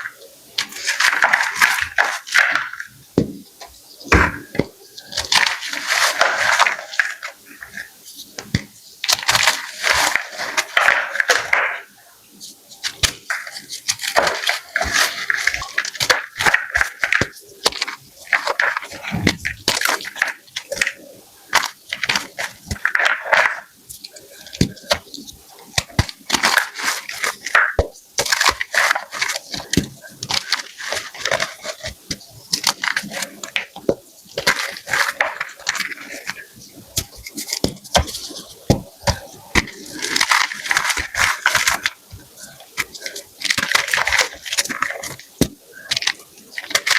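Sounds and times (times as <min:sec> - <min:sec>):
chalk blocks crunching: 0:00.0 - 0:46.9.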